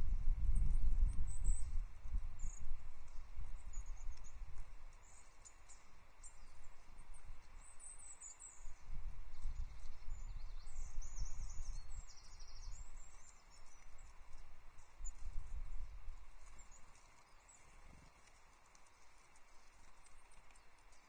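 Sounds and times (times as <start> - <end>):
songbirds chirping and twittering: 0.0 - 21.0.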